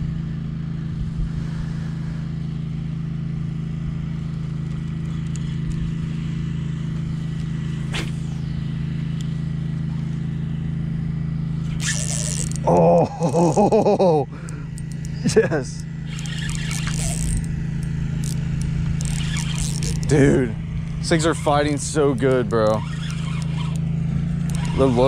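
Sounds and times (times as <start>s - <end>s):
motor droning: 0.0s - 25.0s.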